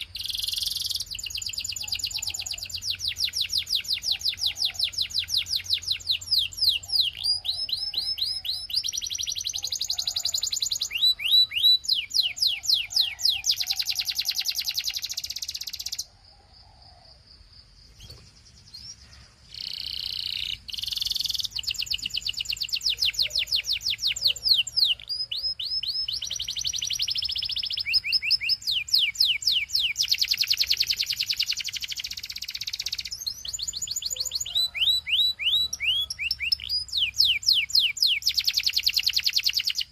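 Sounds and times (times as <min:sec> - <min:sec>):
canary singing: 0:00.0 - 0:16.8, 0:18.0 - 0:39.9.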